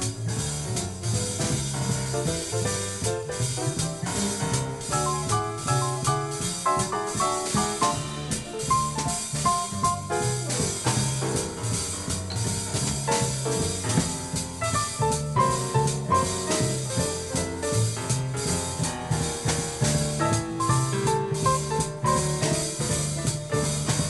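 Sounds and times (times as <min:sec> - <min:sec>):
drum kit cymbals: 0:00.0 - 0:24.0
piano chords and runs: 0:00.0 - 0:24.0
walking bass line: 0:00.0 - 0:24.0.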